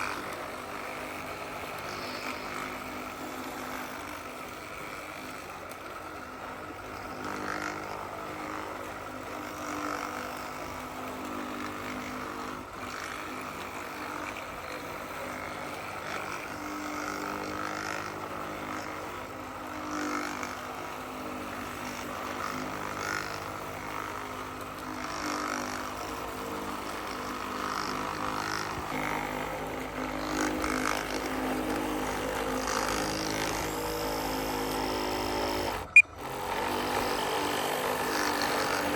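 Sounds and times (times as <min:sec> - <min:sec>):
model vehicle motor hum: 0:00.0 - 0:38.9.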